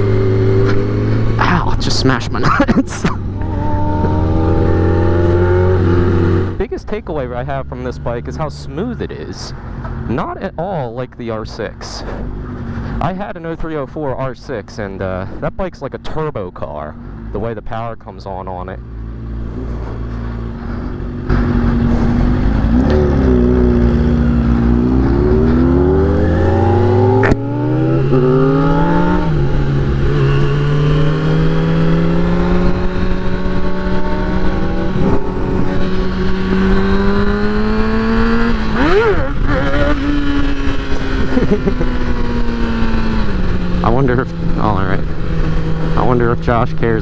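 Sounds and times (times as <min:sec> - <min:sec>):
motorcycle engine revving: 0:00.0 - 0:10.8, 0:18.4 - 0:47.0.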